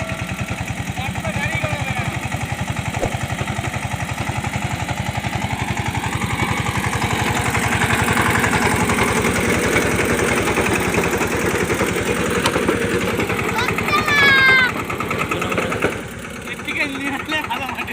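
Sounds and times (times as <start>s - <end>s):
tractor diesel engine chugging: 0.0s - 17.9s.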